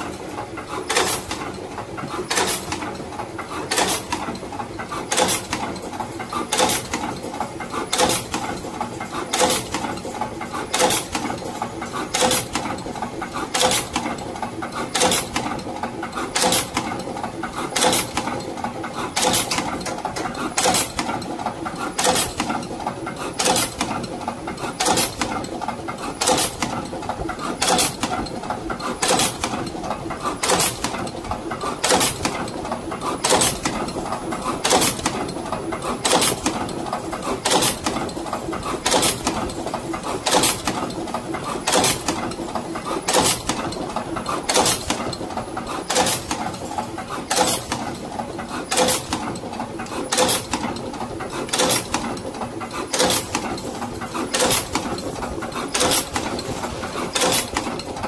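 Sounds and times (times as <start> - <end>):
continuous machine hum: 0.0 - 58.0
crimping machine clacks: 0.0 - 58.0
light machine clicks: 0.7 - 14.2, 16.2 - 22.7, 23.3 - 29.8, 30.4 - 38.1, 38.7 - 48.0, 48.6 - 58.0.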